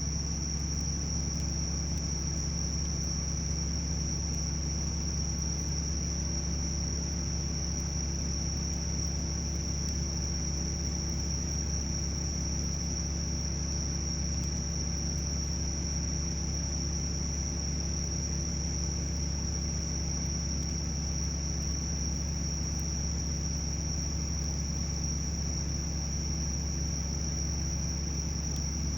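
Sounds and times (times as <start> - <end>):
constant low hum: 0.0 - 28.9
crickets trilling: 0.0 - 28.9.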